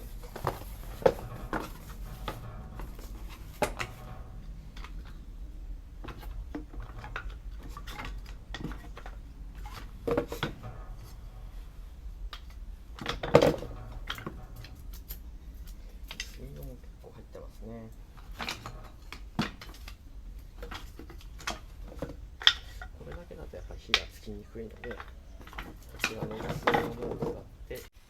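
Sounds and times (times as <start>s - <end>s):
firewood knocking together: 0.0s - 5.3s, 6.0s - 17.0s, 18.1s - 27.9s.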